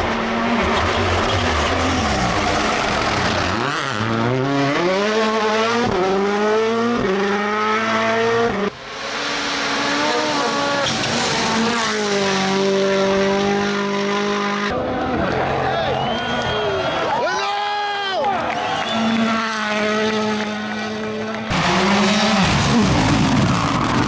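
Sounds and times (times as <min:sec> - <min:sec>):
car engine at high revs: 0:00.0 - 0:14.8, 0:18.6 - 0:24.0
rally car engine accelerating: 0:00.0 - 0:15.0, 0:18.6 - 0:24.0.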